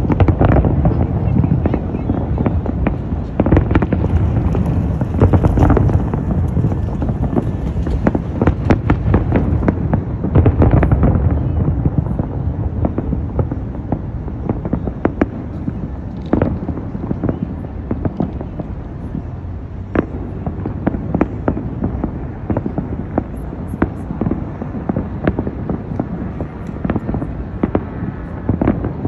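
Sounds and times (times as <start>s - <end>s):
fireworks booms and cracks: 0.0s - 29.0s.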